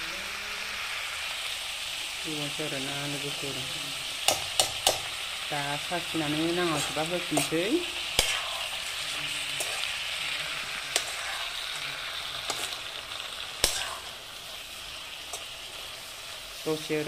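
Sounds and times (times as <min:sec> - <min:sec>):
food sizzling in a hot pan: 0:00.0 - 0:17.0.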